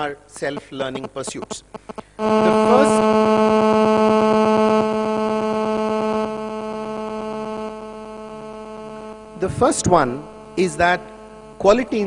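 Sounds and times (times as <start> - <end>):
loud electrical buzz: 0.5 - 12.0.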